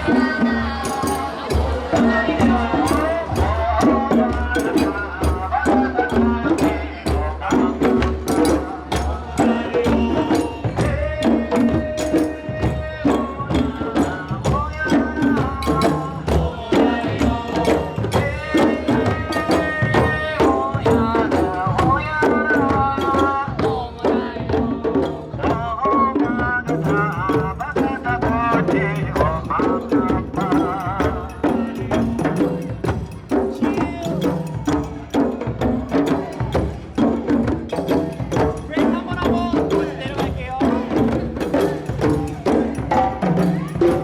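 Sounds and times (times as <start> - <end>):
drums and percussion: 0.0 - 44.0
group of voices singing: 0.0 - 44.0.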